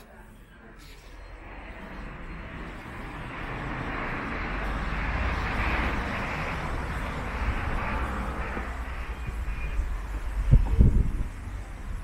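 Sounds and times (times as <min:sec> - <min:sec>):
vehicle passing: 0:00.9 - 0:12.0.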